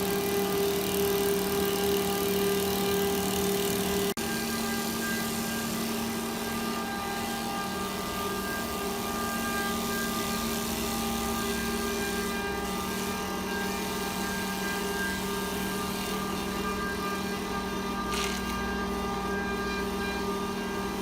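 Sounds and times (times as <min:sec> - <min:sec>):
wood lathe humming and whining: 0:00.0 - 0:21.0.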